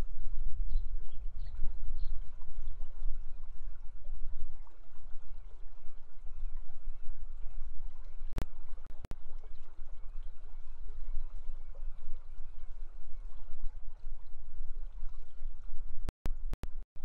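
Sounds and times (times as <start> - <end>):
river water running: 0.0 - 16.5.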